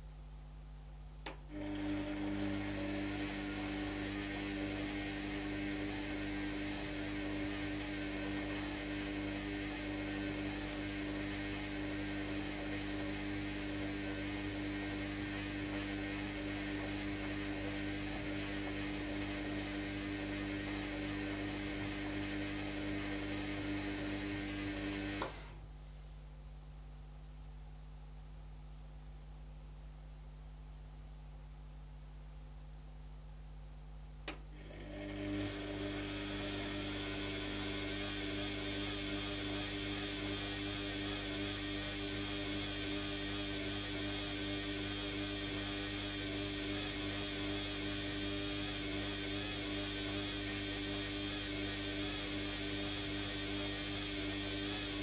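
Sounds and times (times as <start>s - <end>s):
washing machine motor hum: 1.2s - 25.8s, 34.2s - 55.0s.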